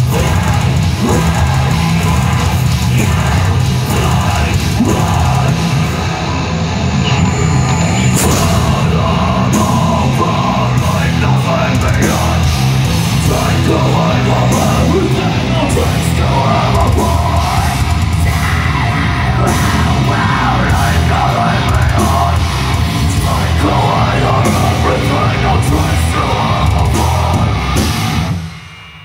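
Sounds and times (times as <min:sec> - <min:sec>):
yelled vocals: 0:00.0 - 0:28.5
live heavy metal band: 0:00.0 - 0:29.0.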